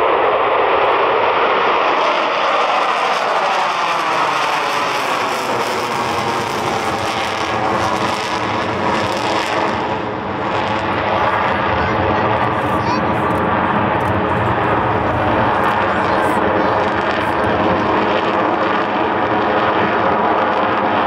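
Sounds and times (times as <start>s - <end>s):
jet roar overhead: 0.0s - 21.0s.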